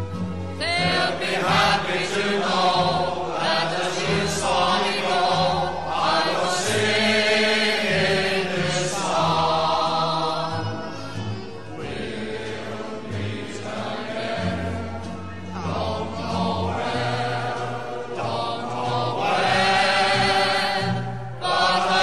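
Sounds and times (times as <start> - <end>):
choir-like singing voices: 0.0 - 22.0.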